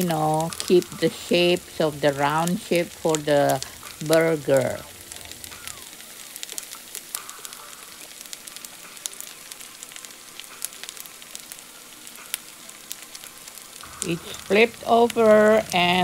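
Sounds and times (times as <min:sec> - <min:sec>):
patty sizzling in hot oil: 0:00.0 - 0:16.0.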